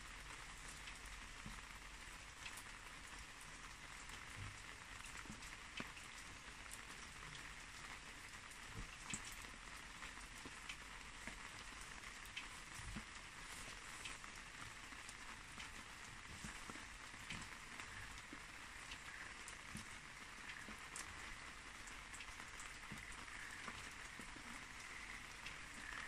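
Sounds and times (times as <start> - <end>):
light rain falling: 0.0 - 26.0
drops ticking: 0.7 - 26.0.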